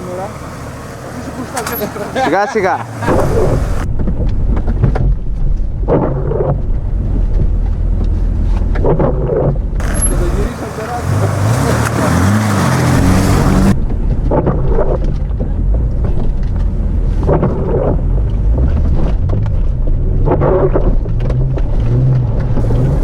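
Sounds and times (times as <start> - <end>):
off-road vehicle engine under load: 0.0 - 23.0.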